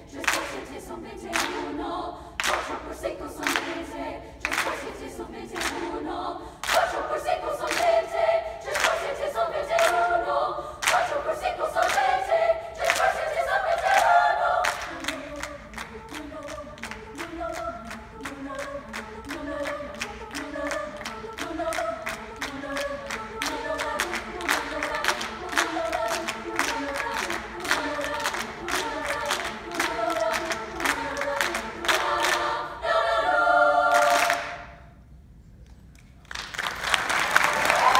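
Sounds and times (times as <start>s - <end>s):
women's choir singing a cappella: 0.0s - 34.9s
hands clapping: 0.1s - 1.8s, 2.4s - 6.0s, 6.6s - 10.0s, 10.8s - 12.2s, 12.8s - 32.6s, 33.9s - 34.7s, 35.6s - 37.9s.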